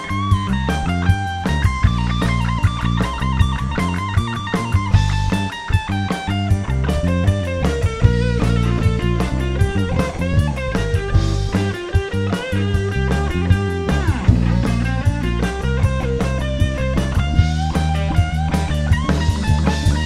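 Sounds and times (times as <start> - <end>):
bass guitar: 0.0 - 20.0
electric guitar lead lines: 0.0 - 20.0
steady drum beat: 0.0 - 20.0.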